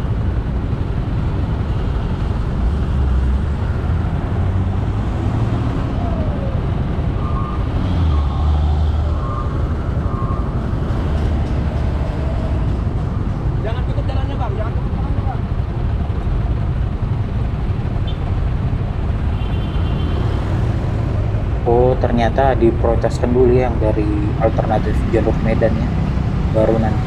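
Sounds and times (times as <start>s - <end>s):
vehicle engines rumbling: 0.0s - 27.0s.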